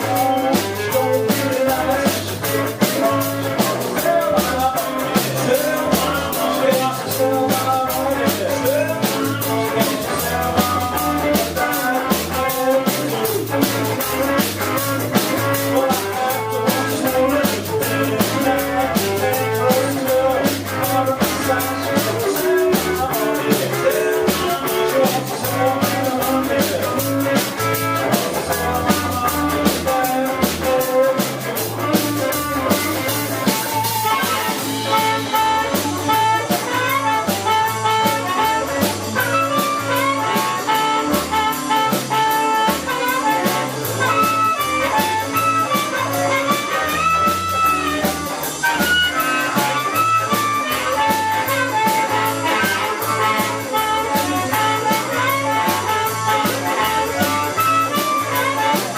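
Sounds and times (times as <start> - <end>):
drum kit with cymbals: 0.0 - 58.9
walking bass line: 0.0 - 58.9.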